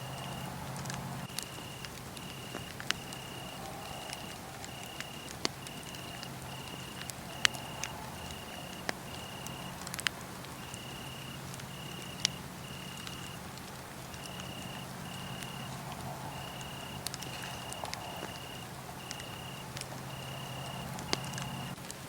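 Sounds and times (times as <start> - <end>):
crickets chirping: 0.0 - 21.8
wood fire crackling and popping: 0.0 - 22.0.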